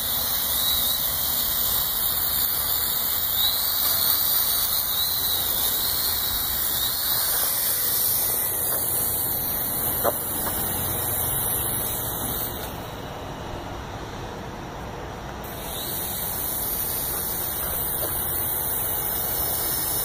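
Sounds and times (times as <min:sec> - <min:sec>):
quadcopter propellers whining: 0:00.0 - 0:20.0.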